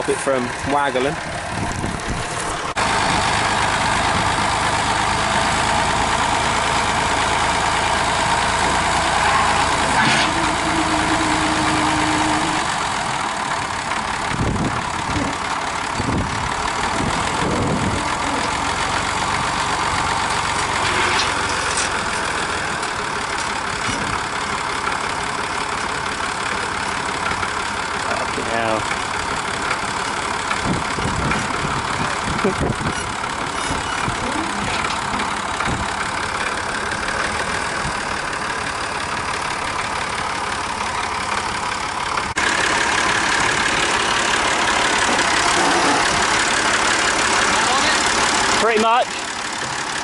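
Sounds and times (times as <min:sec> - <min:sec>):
engine idling: 0:00.0 - 0:50.0.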